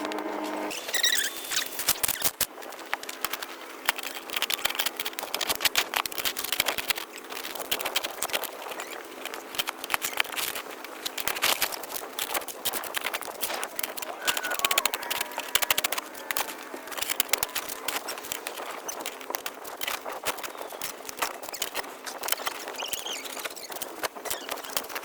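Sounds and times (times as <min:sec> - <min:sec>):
crackling and crunching clicks: 0:01.5 - 0:25.0
faint steady hum: 0:02.4 - 0:25.0.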